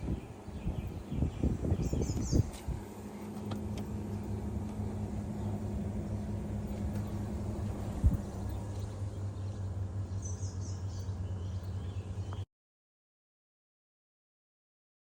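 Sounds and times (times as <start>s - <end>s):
bird chirping: 0.0s - 12.4s
low rumbles: 0.0s - 12.4s
pool equipment electric hum: 0.0s - 12.4s.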